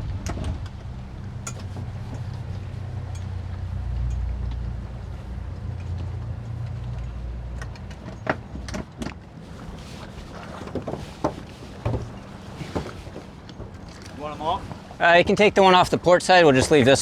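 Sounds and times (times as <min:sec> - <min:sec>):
boat engine running: 0:00.0 - 0:17.0
boats knocking: 0:00.0 - 0:17.0.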